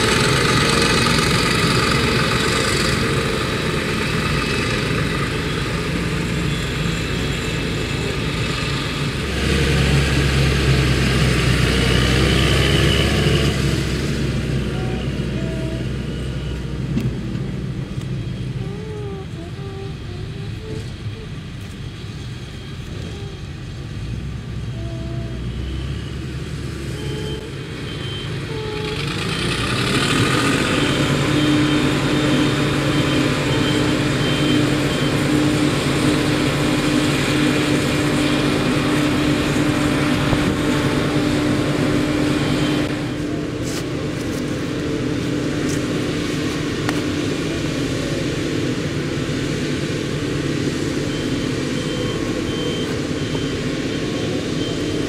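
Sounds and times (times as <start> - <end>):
tractor engine: 0.0 - 55.0.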